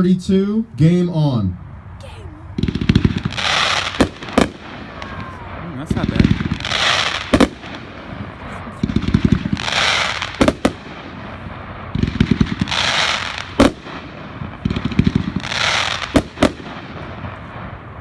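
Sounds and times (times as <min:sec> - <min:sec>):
fireworks low thumps: 0:02.0 - 0:17.7
fireworks hissing crackle: 0:02.2 - 0:17.7
fireworks sharp bang: 0:02.6 - 0:17.7.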